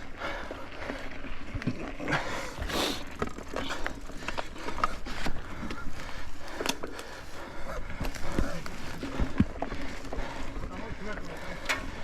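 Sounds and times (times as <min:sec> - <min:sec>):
bike clicks and rattles: 0:00.0 - 0:12.0
bike tyres on dirt: 0:00.0 - 0:12.0.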